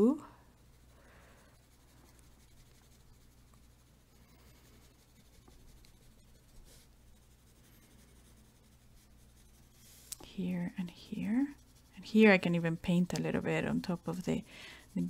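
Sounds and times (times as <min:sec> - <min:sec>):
pencil scratching on paper: 0:00.1 - 0:15.0.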